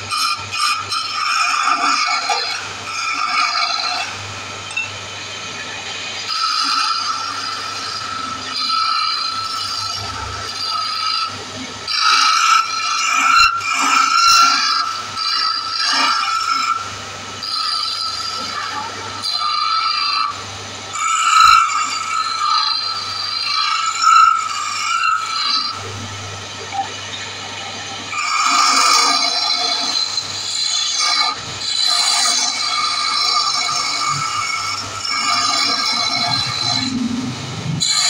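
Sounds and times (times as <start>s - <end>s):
turning tool squealing on wood: 0.0s - 37.2s, 37.8s - 38.0s
wood lathe motor hum: 0.0s - 38.0s.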